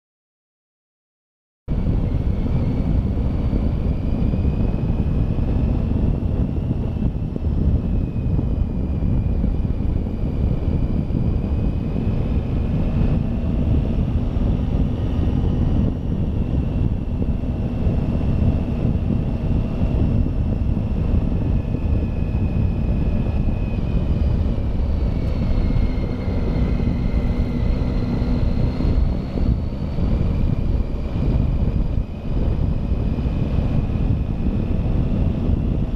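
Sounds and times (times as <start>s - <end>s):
wind rumbling on microphone: 1.7s - 35.9s
motorcycle engine: 1.8s - 35.9s.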